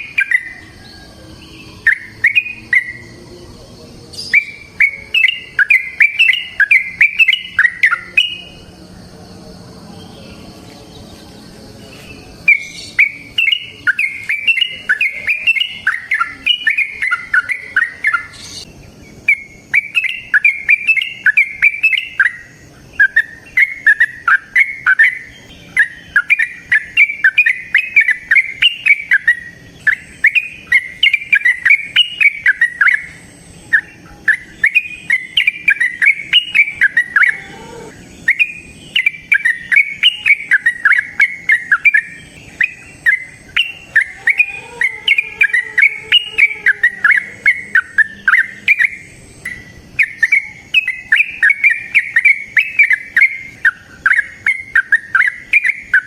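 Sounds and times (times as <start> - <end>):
bird singing bubbly chirps: 0.0 - 8.9, 10.0 - 56.0.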